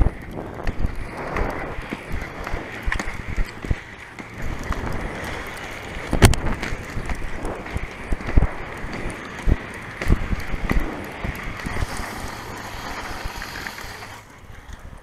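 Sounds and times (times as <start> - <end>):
skate wheels rolling on asphalt: 0.0 - 15.0
wind buffeting microphone: 0.0 - 15.0.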